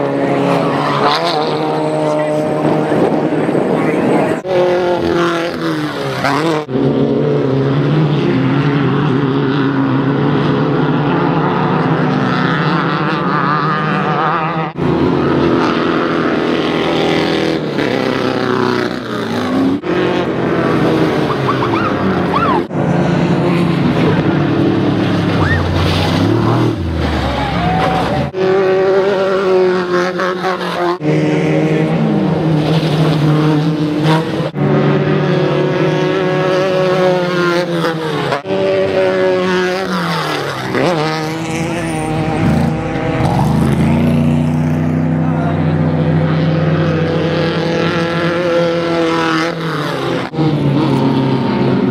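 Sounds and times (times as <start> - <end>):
race buggy engines revving: 0.0 - 51.9.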